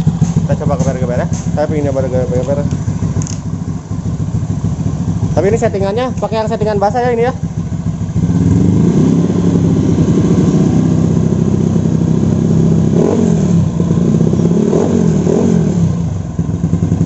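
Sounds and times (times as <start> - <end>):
scooter engine idling and revving: 0.0 - 17.0.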